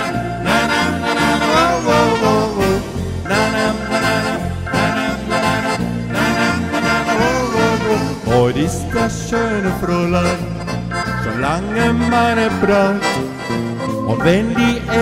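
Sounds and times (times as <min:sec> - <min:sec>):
brass dance band playing: 0:00.0 - 0:14.4.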